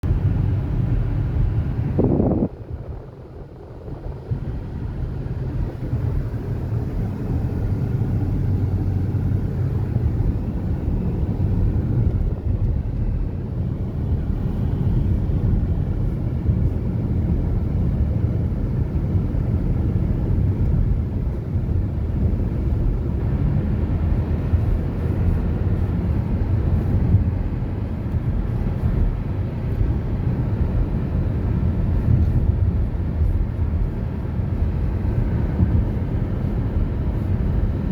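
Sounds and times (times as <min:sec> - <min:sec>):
road vehicle rumble: 0:00.0 - 0:37.9.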